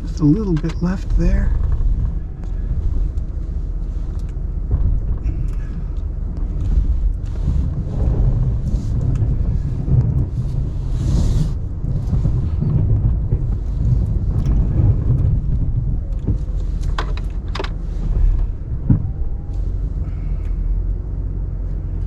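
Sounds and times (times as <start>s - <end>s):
pickup engine rumbling: 0.0s - 22.0s.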